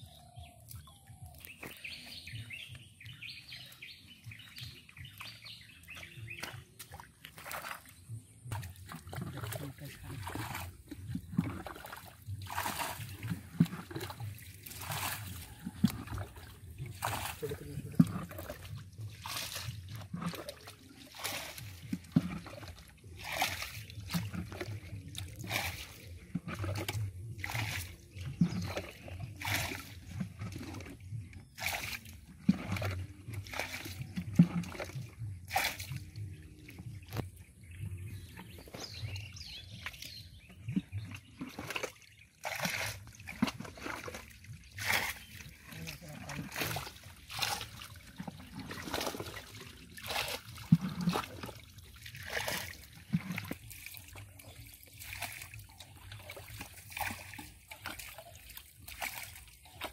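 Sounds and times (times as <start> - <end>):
fish splashing in shallow water: 0.0 - 59.9
water trickling in a ditch: 0.0 - 59.9.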